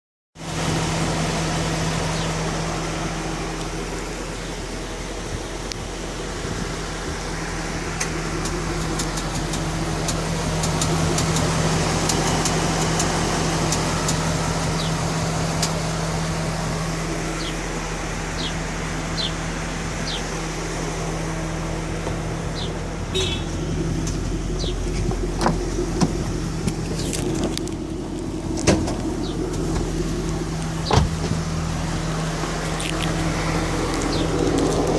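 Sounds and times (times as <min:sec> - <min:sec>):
car engine idling: 0:00.4 - 0:34.9.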